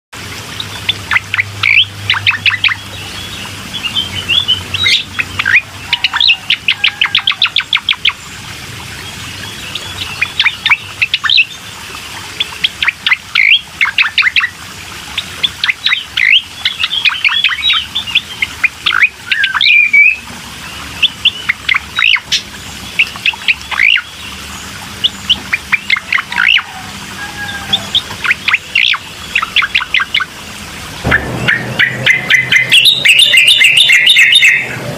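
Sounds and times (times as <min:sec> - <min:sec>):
songbird singing: 0:00.6 - 0:08.3, 0:09.0 - 0:14.5, 0:15.4 - 0:34.9.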